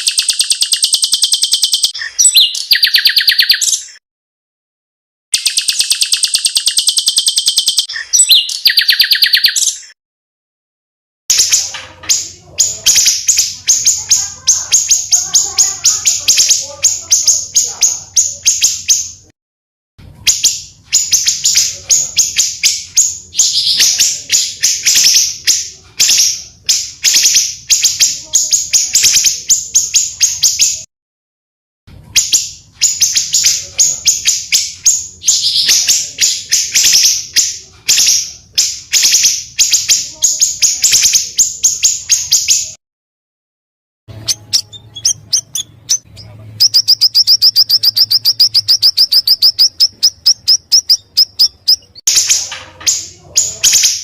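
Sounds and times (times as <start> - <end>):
songbirds singing harsh notes: 0.0 - 4.0, 5.4 - 10.0, 11.3 - 19.3, 20.3 - 30.9, 32.2 - 42.8, 44.1 - 54.0.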